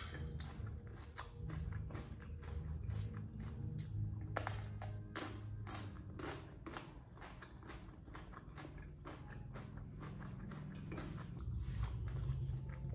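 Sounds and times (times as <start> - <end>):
low steady hum: 0.0 - 12.9
man chewing raw vegetable: 0.0 - 12.9.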